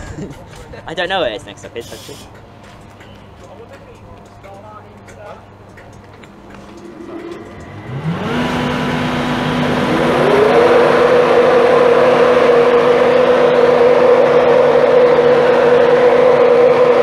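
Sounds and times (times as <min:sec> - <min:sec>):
diesel train engine revving: 0:00.0 - 0:17.0.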